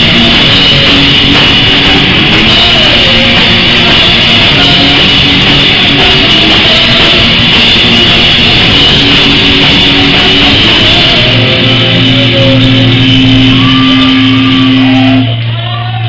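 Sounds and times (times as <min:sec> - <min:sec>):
live rock band playing: 0:00.0 - 0:15.6
distorted electric guitar: 0:00.0 - 0:16.0.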